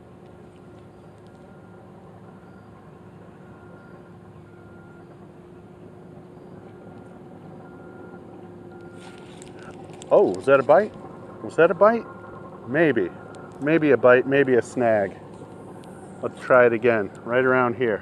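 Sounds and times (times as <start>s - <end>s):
distant motor humming: 0.0s - 18.0s.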